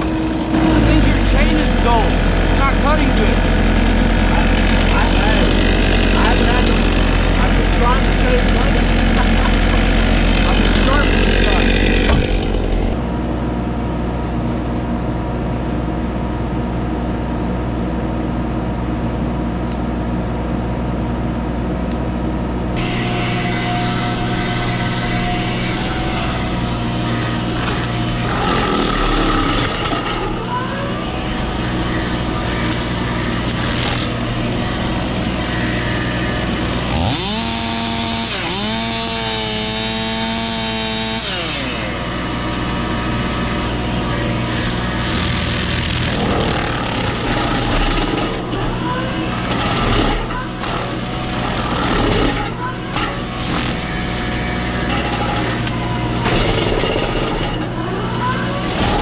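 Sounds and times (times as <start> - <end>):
excavator mulcher droning: 0.0 - 59.0.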